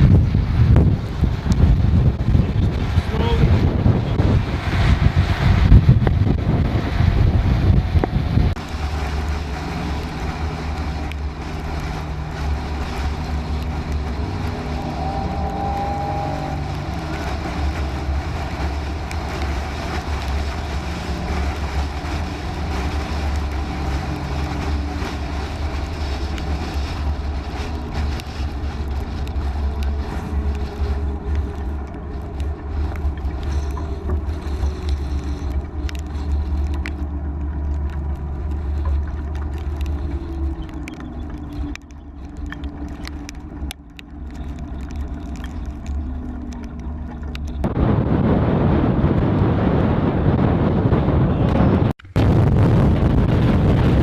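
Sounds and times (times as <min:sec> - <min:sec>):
vehicle driving rumble: 0:00.0 - 0:54.0.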